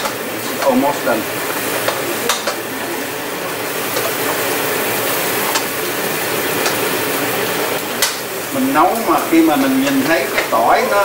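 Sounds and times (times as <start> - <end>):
crab sizzling in a frying pan: 0.0 - 11.0.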